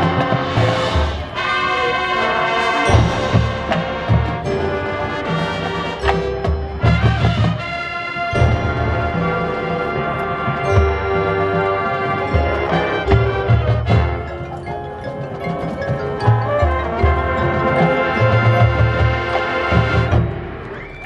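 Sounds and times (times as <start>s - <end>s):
brass chords: 0.0s - 20.7s.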